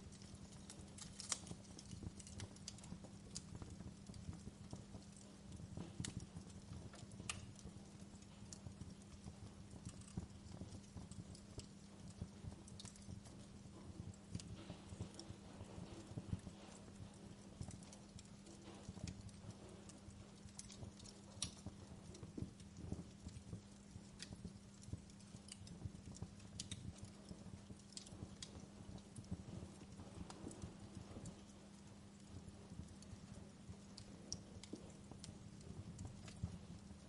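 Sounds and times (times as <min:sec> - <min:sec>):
steady low hum: 0:00.0 - 0:37.0
wood fire crackling: 0:00.0 - 0:37.0.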